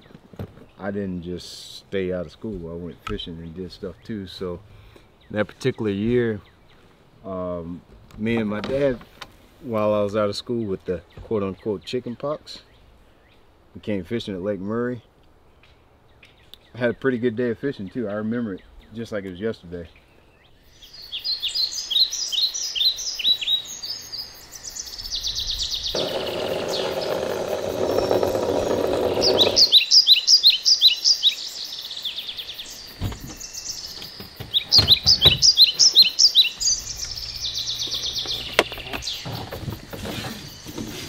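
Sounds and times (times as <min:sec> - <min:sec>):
songbird singing: 0:00.0 - 0:41.0.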